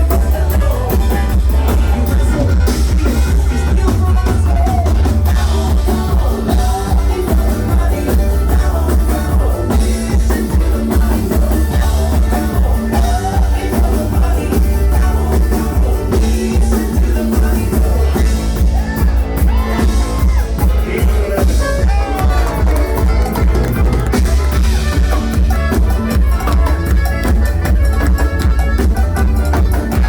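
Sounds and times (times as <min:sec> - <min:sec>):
drum kit beat: 0:00.0 - 0:30.0
heavy bass: 0:00.0 - 0:30.0
live bluegrass rock band: 0:00.0 - 0:30.0.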